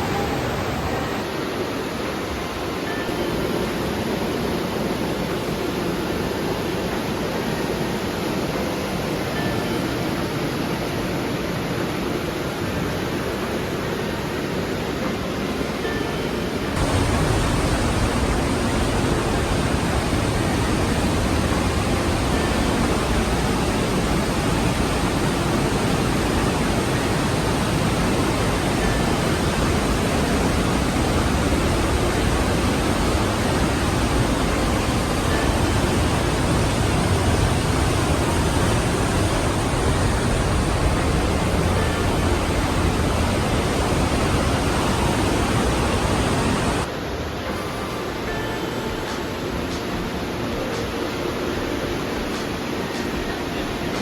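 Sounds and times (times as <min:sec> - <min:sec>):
river water rushing through gorge: 0:00.0 - 0:54.0.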